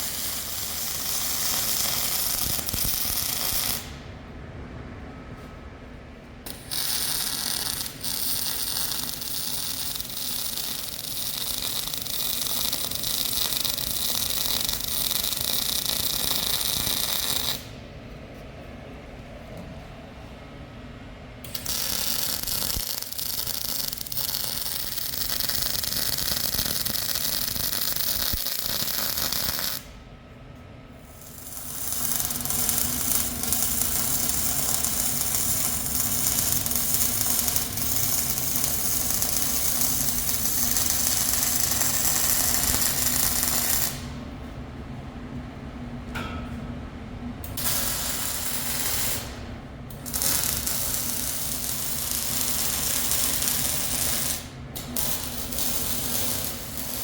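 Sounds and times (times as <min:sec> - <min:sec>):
welding arc crackling and hissing: 0:00.0 - 0:04.0, 0:06.5 - 0:17.8, 0:21.5 - 0:29.9, 0:31.0 - 0:44.1, 0:47.5 - 0:57.0.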